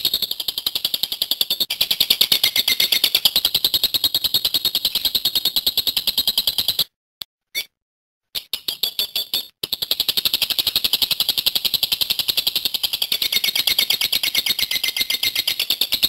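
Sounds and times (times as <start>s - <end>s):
bird rapid chattering trill: 0.0s - 6.9s, 8.6s - 16.0s.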